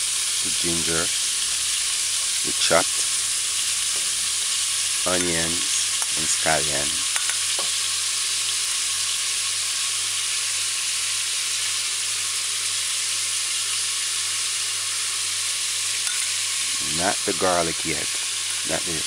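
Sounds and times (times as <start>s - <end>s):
meat and onion sizzling in oil: 0.0s - 19.0s.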